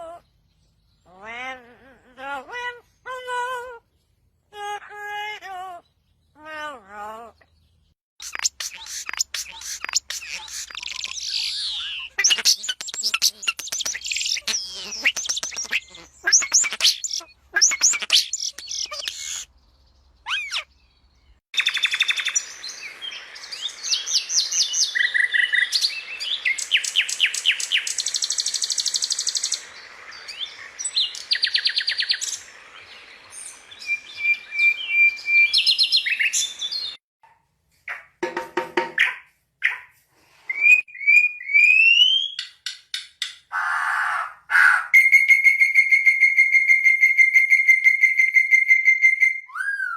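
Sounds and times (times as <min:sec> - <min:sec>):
birds singing and chirping: 0:00.0 - 0:37.0, 0:43.6 - 0:49.9.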